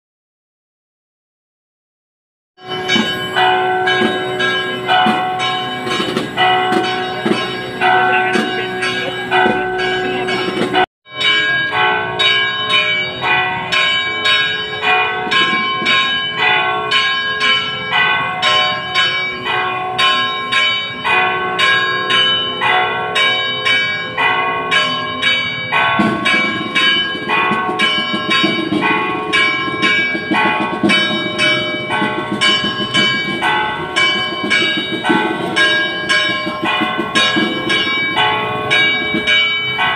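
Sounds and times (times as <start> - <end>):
church bells ringing: 2.6 - 39.9.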